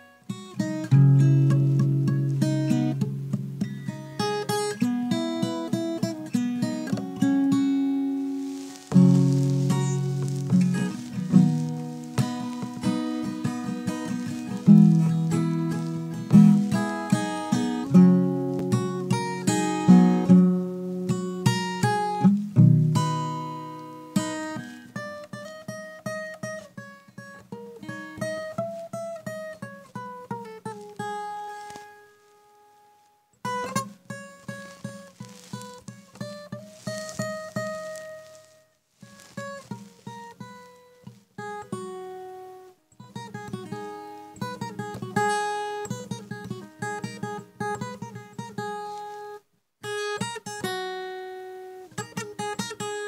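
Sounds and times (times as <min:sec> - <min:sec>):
acoustic guitar music: 0:00.0 - 0:53.0.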